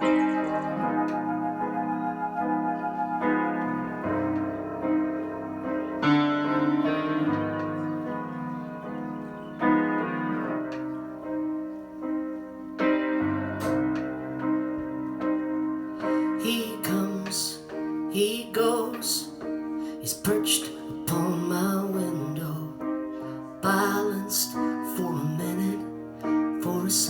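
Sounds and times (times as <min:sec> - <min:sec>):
piano playing slow chords: 0:00.0 - 0:27.0.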